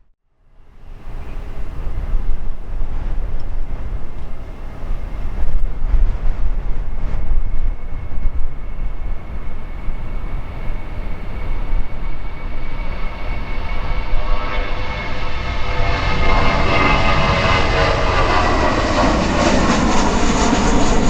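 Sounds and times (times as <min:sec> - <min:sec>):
jet engine whine: 0:00.5 - 0:21.0
wind buffeting microphone: 0:00.8 - 0:21.0.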